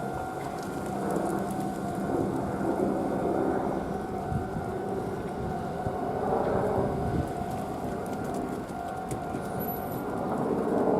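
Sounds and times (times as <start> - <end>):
electric train rumbling: 0.0 - 10.9.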